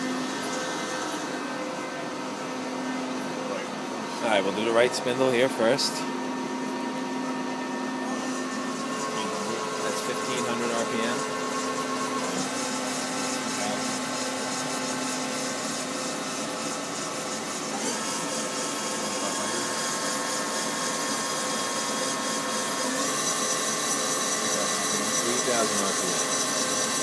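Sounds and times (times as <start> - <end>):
lathe spindle whine: 0.0 - 27.0.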